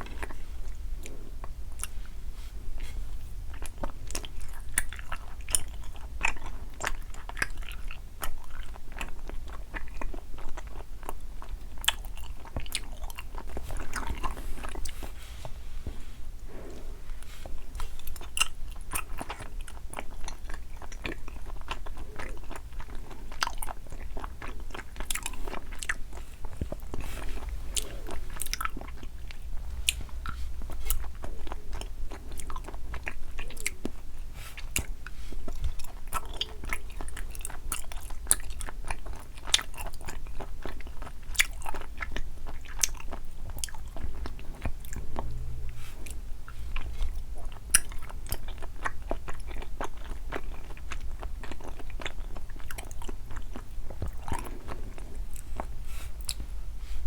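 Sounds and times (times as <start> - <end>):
chewing and crunching sweets: 0.0 - 57.0.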